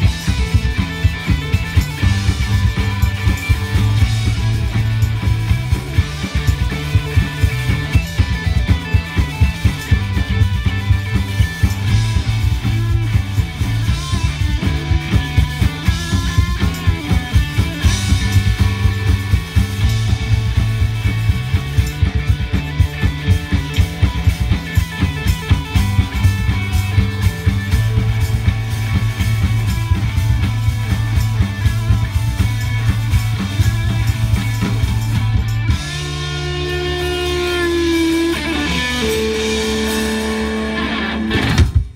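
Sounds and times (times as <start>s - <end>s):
drum kit beat: 0.0s - 41.9s
electric guitars: 0.0s - 41.9s.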